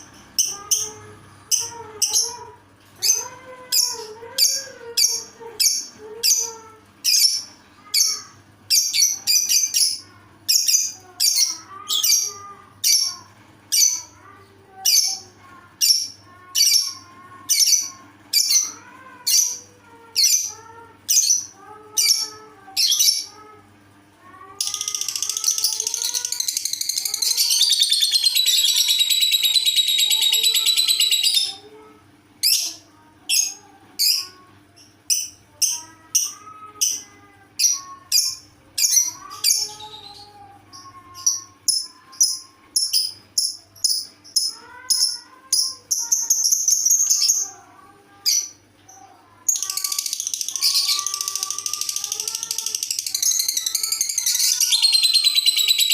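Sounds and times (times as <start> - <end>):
bird chirping and chattering: 0.0 - 23.5, 24.4 - 31.8, 32.4 - 55.9.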